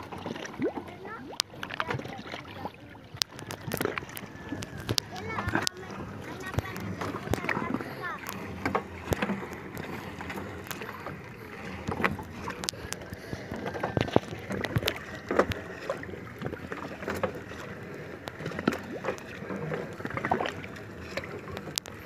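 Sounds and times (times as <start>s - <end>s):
rope knocking and scraping on boat hull: 3.2s - 22.0s.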